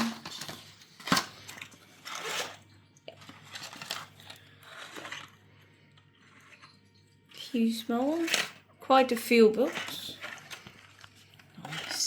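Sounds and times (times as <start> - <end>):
wrapper crinkling and rustling: 0.0 - 12.0.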